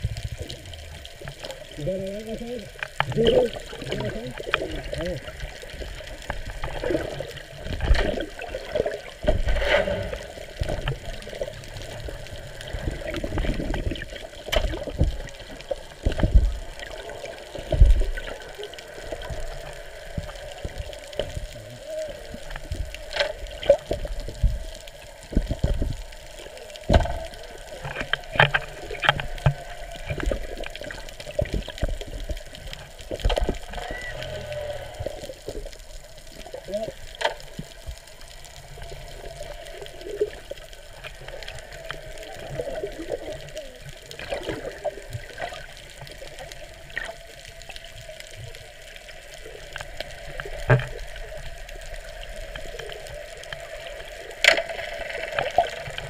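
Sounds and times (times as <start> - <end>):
underwater sloshing and bubbling: 0.0 - 56.0.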